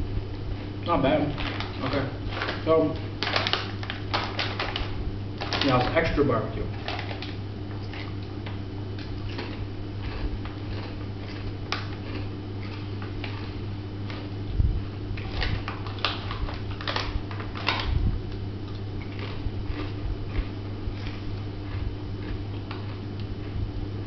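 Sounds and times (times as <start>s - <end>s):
low hum: 0.0s - 24.0s
chip bag crinkling: 1.1s - 23.1s.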